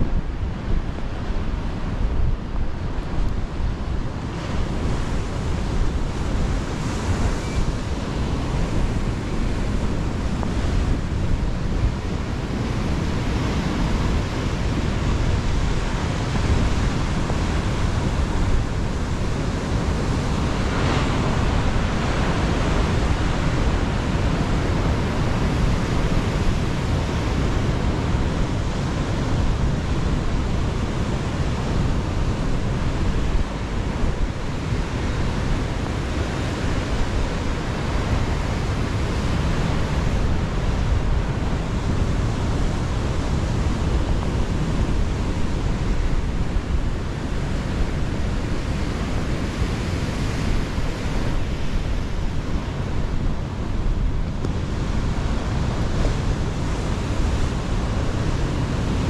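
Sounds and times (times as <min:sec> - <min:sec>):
ocean surf washing: 0:00.0 - 0:59.0
wind: 0:00.0 - 0:59.0.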